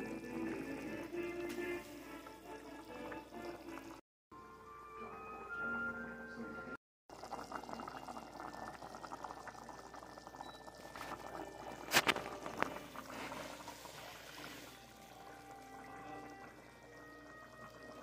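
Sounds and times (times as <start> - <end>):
soup boiling in a pot: 0.0 - 4.0, 7.1 - 18.0.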